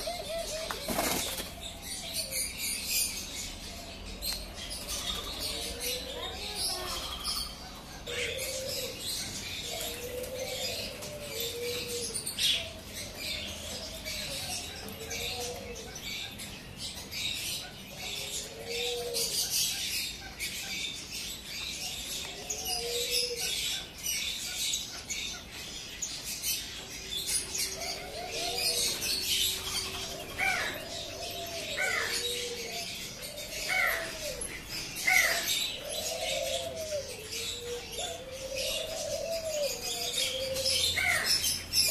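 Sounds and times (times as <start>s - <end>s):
low cooing calls: 0.0s - 41.9s
small birds chirping: 0.0s - 41.9s.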